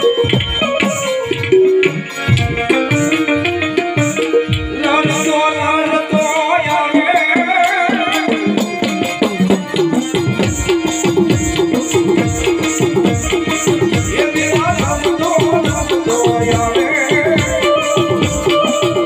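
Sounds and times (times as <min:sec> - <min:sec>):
hand drumming: 0:00.0 - 0:05.5, 0:06.1 - 0:19.0
high ticking percussion: 0:00.0 - 0:19.0.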